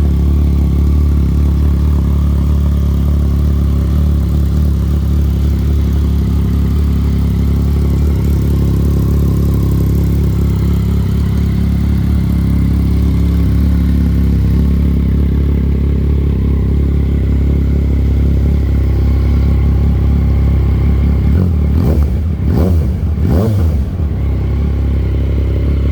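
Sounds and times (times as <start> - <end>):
motorcycle engine idling and revving: 0.0 - 25.9.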